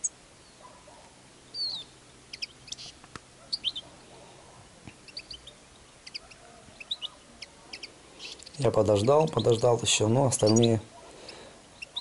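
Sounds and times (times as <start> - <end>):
finches chirping: 0.0 - 4.1, 5.0 - 12.0.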